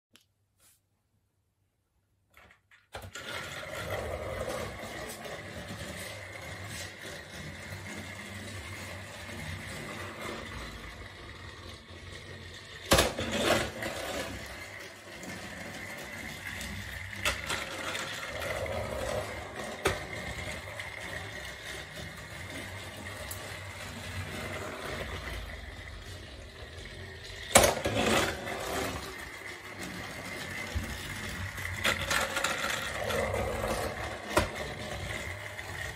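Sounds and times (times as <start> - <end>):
wheels rattling on plastic track: 2.3 - 35.9
toy train motor whine: 3.0 - 35.9.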